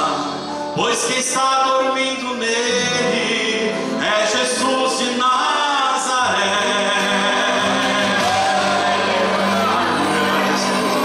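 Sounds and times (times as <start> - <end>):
man singing a hymn into a microphone: 0.0 - 11.0.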